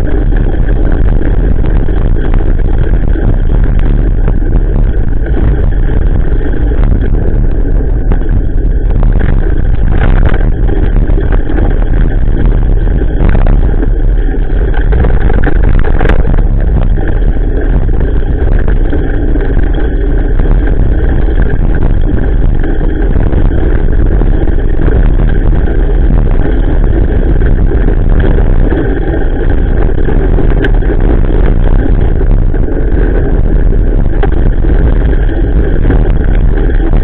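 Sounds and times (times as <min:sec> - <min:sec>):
bicycle rattle on trail: 0:00.0 - 0:37.0
wind rumble: 0:00.0 - 0:37.0.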